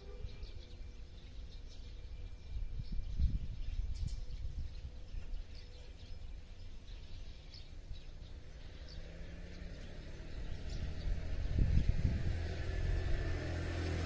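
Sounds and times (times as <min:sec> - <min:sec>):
low outdoor rumble: 0:00.0 - 0:14.0
wild birds chirping: 0:00.0 - 0:14.0.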